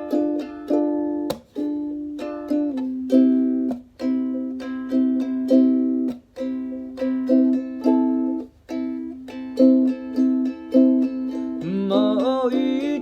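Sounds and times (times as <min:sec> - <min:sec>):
ukulele strumming: 0:00.0 - 0:13.0.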